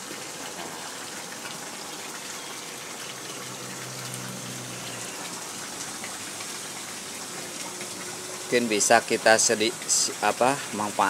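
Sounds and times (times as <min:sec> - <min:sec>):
pond water splashing: 0:00.0 - 0:11.0.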